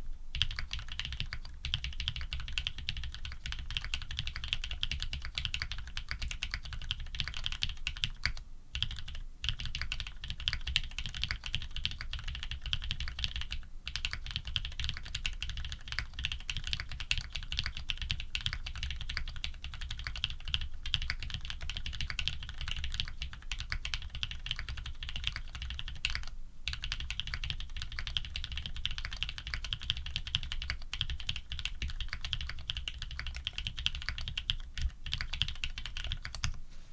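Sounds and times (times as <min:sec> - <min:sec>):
fast typing on mechanical keyboard: 0:00.4 - 0:36.6.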